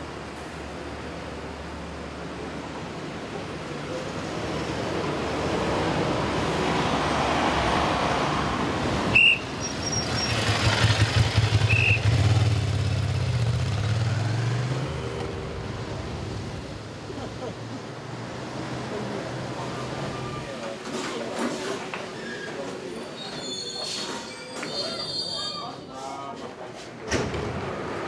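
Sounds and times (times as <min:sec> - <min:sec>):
rush of traffic: 0:00.0 - 0:28.0.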